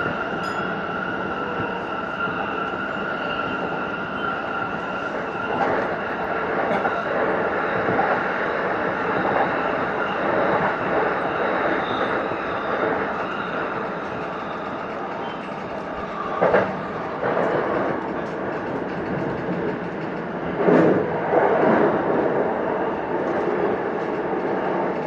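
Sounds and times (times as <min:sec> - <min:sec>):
electric train wheels rumbling: 0:00.0 - 0:25.0.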